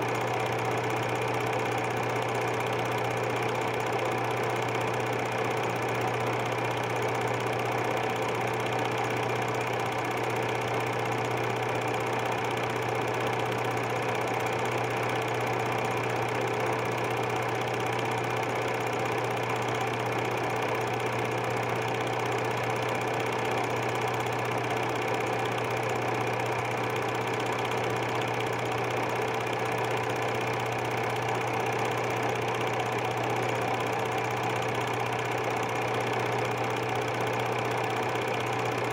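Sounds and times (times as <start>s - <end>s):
film projector running: 0.0s - 38.9s.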